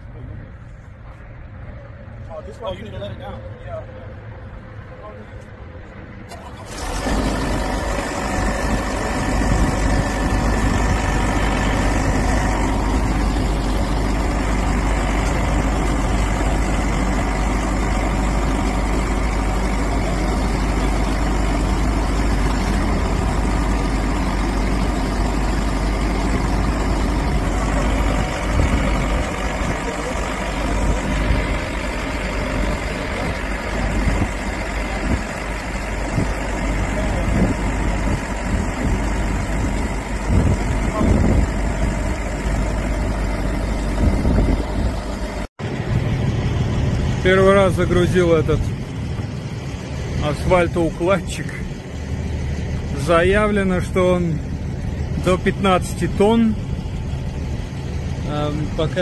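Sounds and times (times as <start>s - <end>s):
large vehicle engine droning: 0.0s - 59.0s.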